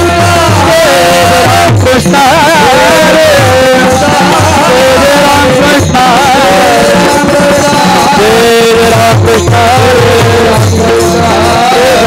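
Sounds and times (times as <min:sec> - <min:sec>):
hand drum rhythm: 0:00.0 - 0:12.0
person singing ornamented melody: 0:00.0 - 0:12.0.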